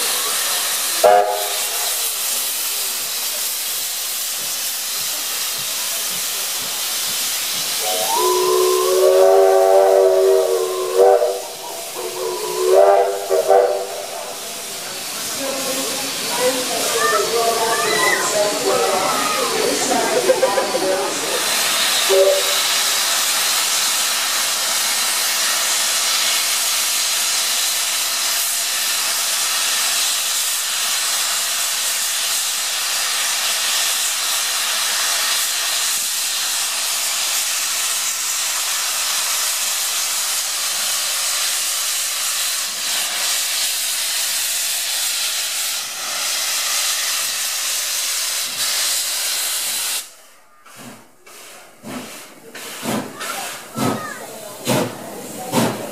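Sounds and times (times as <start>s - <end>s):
steam locomotive blowing off steam: 0.0s - 55.9s.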